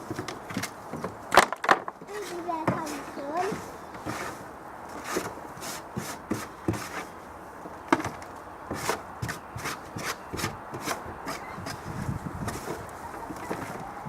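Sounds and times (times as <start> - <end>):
wooden knocks and scrapes: 0.0 - 7.1, 7.9 - 13.9.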